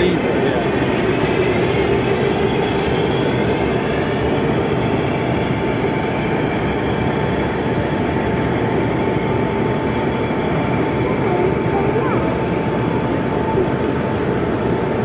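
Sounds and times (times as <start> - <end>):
hall background hum: 0.0 - 15.0
model train rumbling on track: 0.0 - 15.0.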